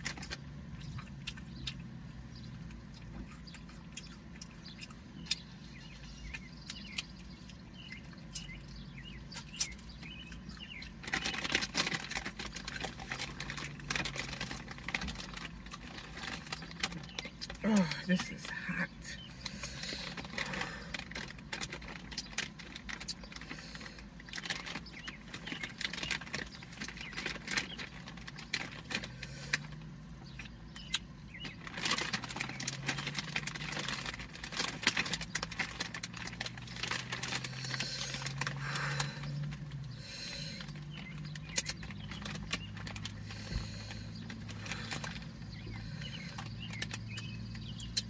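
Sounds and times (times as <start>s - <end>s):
chewing: 0.0s - 17.6s, 19.3s - 48.0s
food and plastic container rustling: 0.0s - 48.0s.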